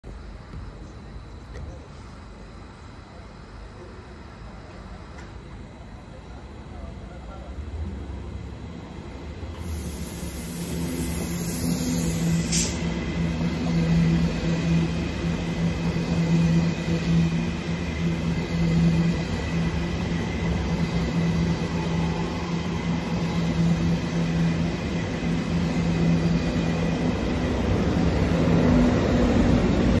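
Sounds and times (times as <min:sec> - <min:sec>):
electric locomotive passing: 0:00.2 - 0:30.0
passenger train passing: 0:00.2 - 0:30.0.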